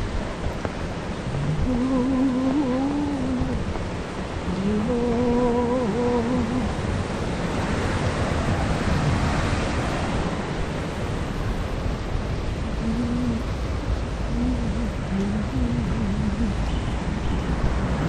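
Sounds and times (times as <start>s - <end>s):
rain hiss: 0.0s - 18.0s
traffic on wet road: 0.0s - 18.0s.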